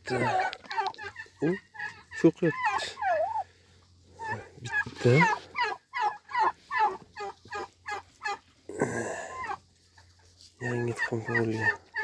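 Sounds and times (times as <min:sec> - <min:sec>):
turkey hen calling: 0:00.0 - 0:12.0.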